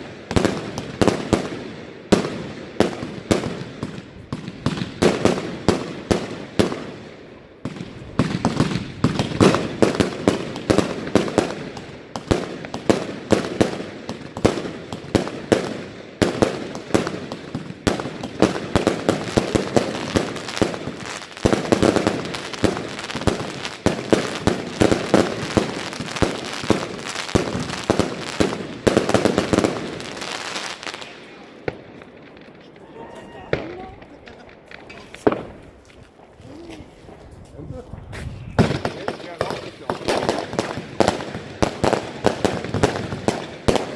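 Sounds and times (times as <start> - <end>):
firework shots and bangs: 0.0 - 32.8, 33.5 - 35.7, 38.2 - 43.9.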